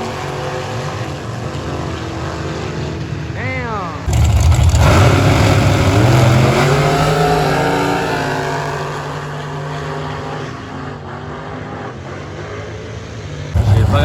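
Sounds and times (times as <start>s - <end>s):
drag car engine accelerating: 0.0s - 14.0s.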